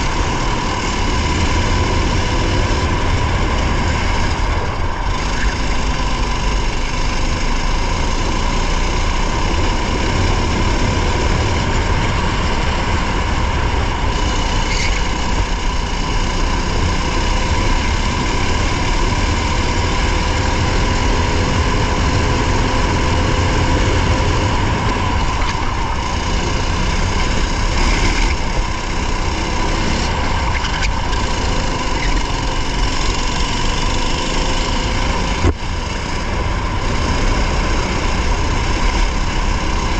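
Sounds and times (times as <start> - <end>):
race car engine running: 0.0 - 39.9
road noise: 0.0 - 39.9.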